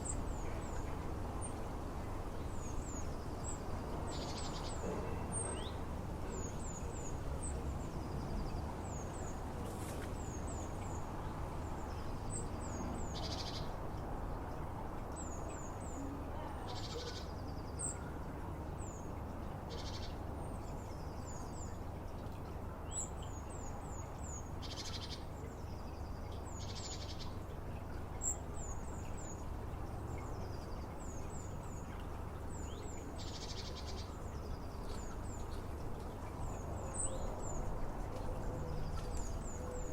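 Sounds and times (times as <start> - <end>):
small songbirds calling: 0.0 - 39.9.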